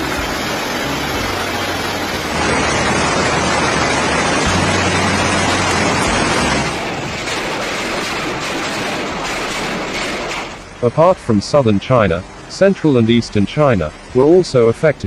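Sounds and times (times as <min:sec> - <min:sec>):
rain: 0:00.0 - 0:15.0.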